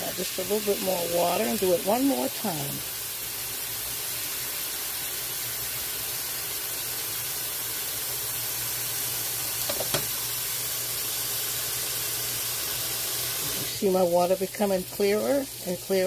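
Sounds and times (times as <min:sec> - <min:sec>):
faucet running into a bowl: 0:00.0 - 0:16.0.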